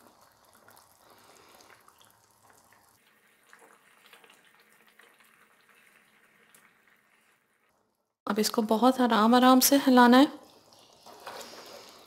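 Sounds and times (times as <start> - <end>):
gravy simmering in a pan: 0.0 - 8.2, 9.8 - 12.0.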